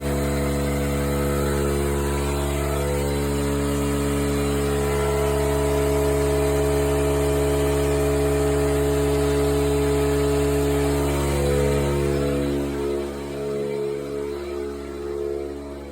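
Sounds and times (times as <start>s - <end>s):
small motor humming: 0.0s - 15.9s.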